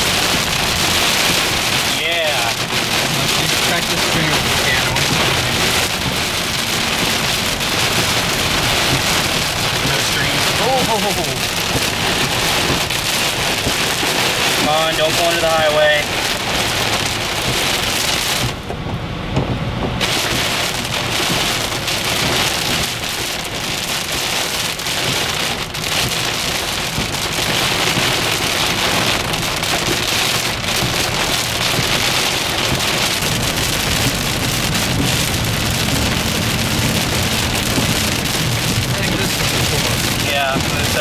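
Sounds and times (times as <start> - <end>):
heavy rain drumming on car: 0.0 - 41.0
road noise: 0.0 - 41.0.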